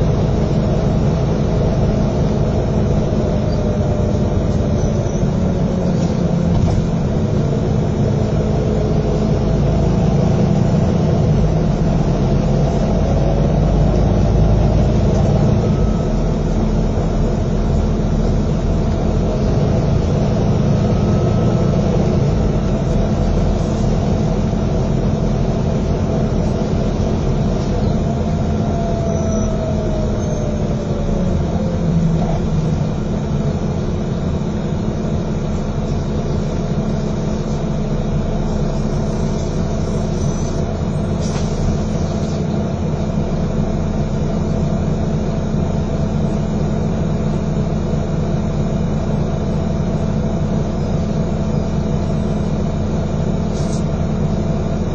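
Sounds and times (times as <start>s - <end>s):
bus diesel engine droning: 0.0s - 54.9s
road noise: 0.0s - 54.9s.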